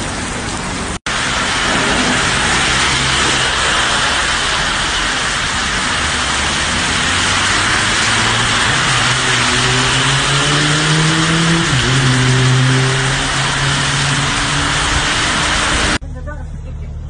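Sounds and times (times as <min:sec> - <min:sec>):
cars swishing past on wet road: 0:00.0 - 0:16.0
heavy rain hissing on road: 0:00.0 - 0:16.0.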